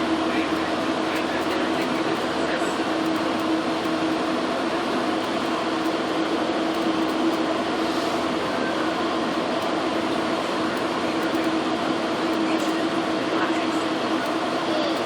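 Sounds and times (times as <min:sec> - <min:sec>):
constant low hum: 0:00.0 - 0:15.0
train car running noise: 0:00.0 - 0:15.0.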